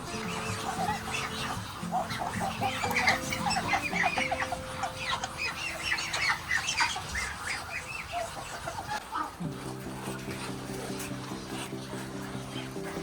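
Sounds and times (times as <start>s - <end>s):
poultry chirping and squawking: 0.0s - 13.0s
quiet background music: 0.0s - 13.0s.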